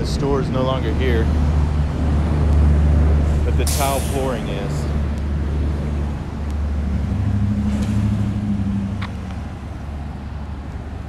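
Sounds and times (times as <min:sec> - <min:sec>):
vehicle engine passing: 0:00.0 - 0:10.9
low traffic rumble: 0:00.0 - 0:11.0.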